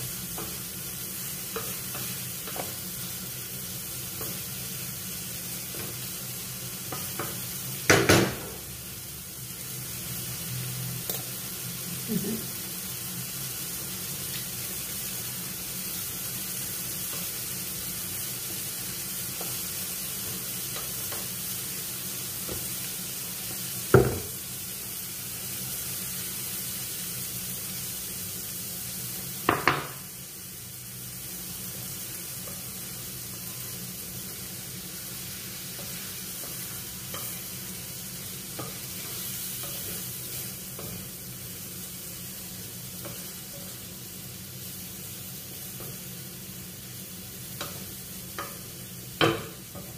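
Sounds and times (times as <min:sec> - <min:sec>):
food sizzling in a frying pan: 0:00.0 - 0:49.9.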